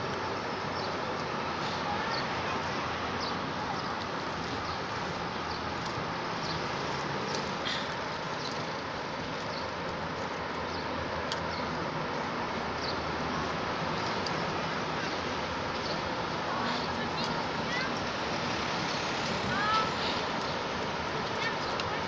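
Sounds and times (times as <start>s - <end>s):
distant traffic: 0.0s - 22.0s.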